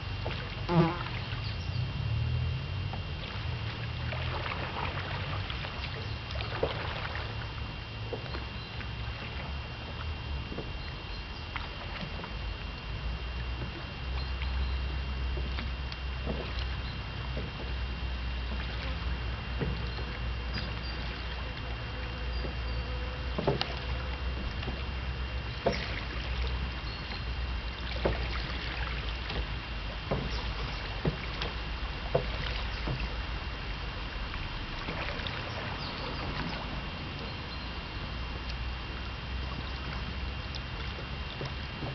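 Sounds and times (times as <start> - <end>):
boat engine rumbling: 0.0 - 41.9
water noise: 0.0 - 41.9.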